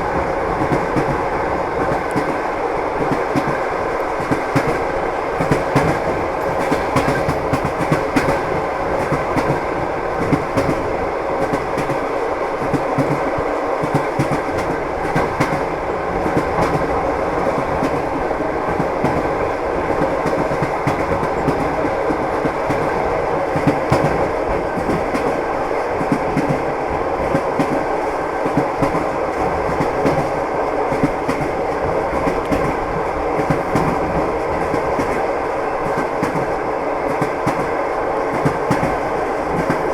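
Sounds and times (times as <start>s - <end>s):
train wheels clicking over rail joints: 0.5s - 39.9s.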